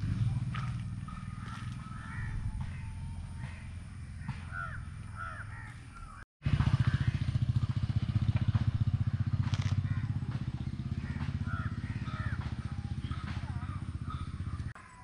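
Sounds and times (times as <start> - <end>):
birds calling: 0.0 - 7.8, 8.8 - 15.0
vehicle engine puttering: 0.0 - 14.8.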